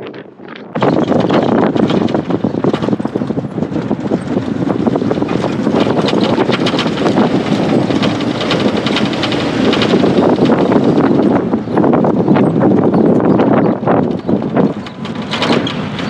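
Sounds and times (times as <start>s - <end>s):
car engine: 0.0s - 16.0s
road noise: 0.0s - 16.0s
wind buffeting microphone: 0.0s - 16.0s.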